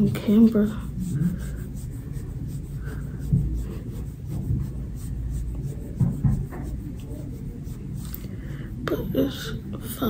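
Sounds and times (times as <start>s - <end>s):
scratchy rubbing on skin: 0.0s - 9.7s.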